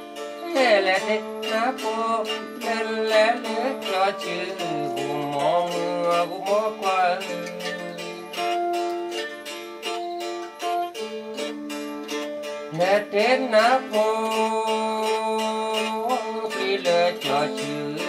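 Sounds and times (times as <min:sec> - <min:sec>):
person singing: 0:00.0 - 0:09.6, 0:10.2 - 0:18.0
plucked string instrument: 0:00.0 - 0:18.0.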